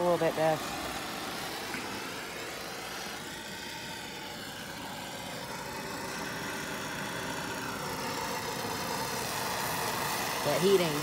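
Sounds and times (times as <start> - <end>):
propane torch flame hissing: 0.0 - 11.0.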